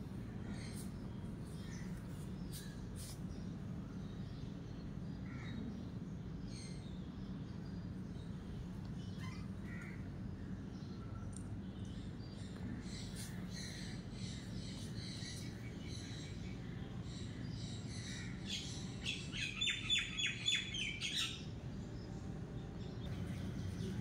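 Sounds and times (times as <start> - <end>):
low steady hum: 0.0 - 24.0
birds chirping: 0.2 - 24.0.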